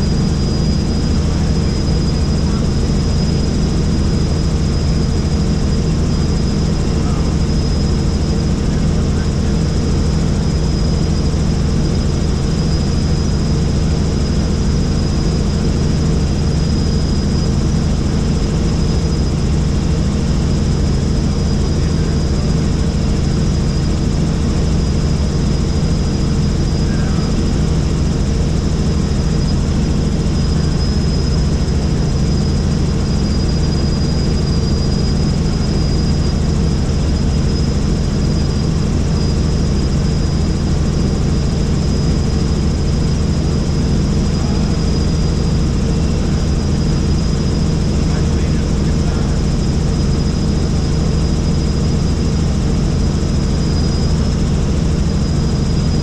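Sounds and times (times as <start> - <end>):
helicopter engine and rotor noise: 0.0 - 56.0
thin high whine: 0.0 - 56.0.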